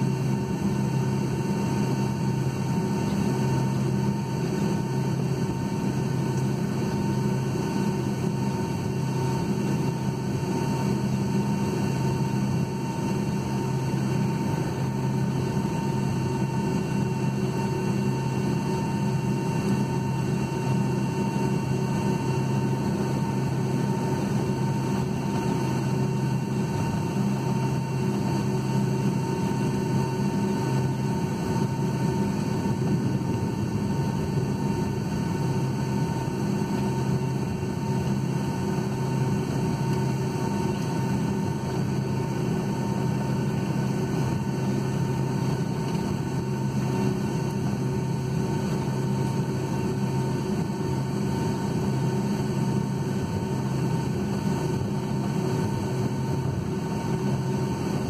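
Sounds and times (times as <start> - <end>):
aircraft cabin engine drone: 0.0 - 58.0.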